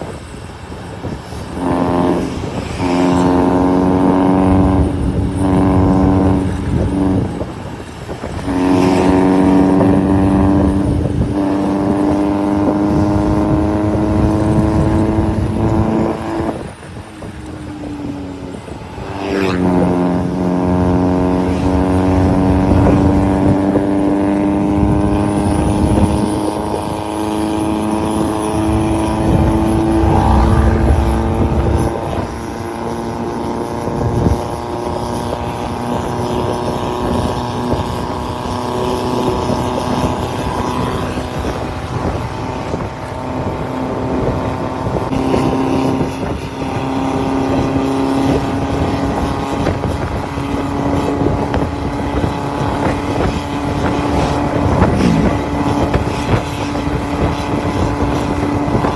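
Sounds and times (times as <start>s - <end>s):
wind noise: 0.0s - 58.9s
diesel engine running under load: 0.1s - 58.9s.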